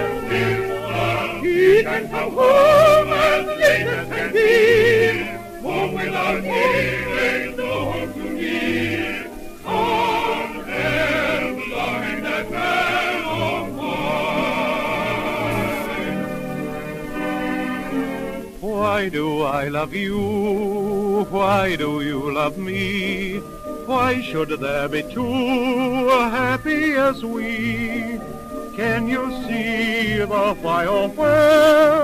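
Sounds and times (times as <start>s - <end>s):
operatic singing with vibrato: 0.0s - 32.0s
orchestra: 0.0s - 32.0s.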